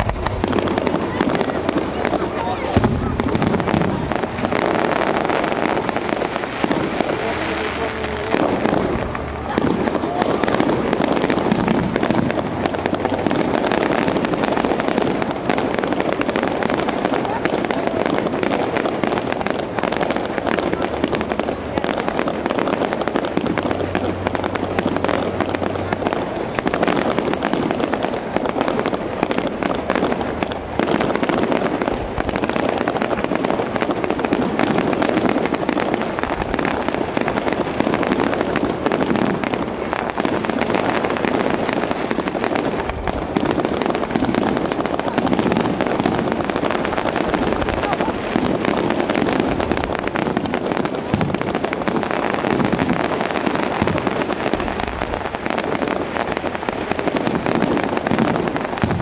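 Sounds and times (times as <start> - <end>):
deep firework booms: 0.0 - 59.0
fireworks bursting and crackling: 0.0 - 59.0.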